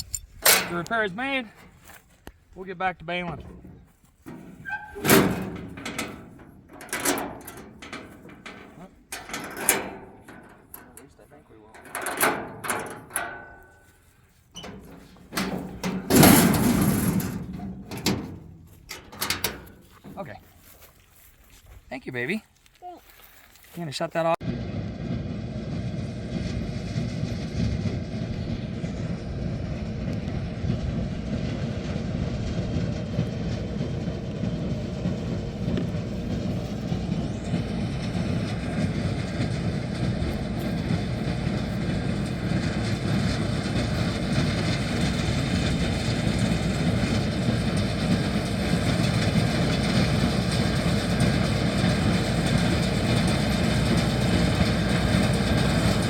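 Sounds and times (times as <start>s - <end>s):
hay baler clattering: 0.0s - 2.0s, 2.6s - 20.9s, 27.0s - 56.0s
tractor running: 0.0s - 22.4s, 23.8s - 56.0s.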